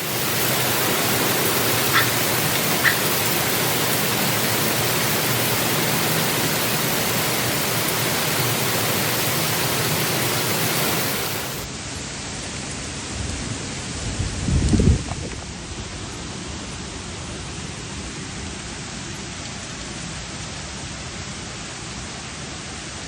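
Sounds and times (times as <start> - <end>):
heavy rain hiss: 0.0 - 23.0.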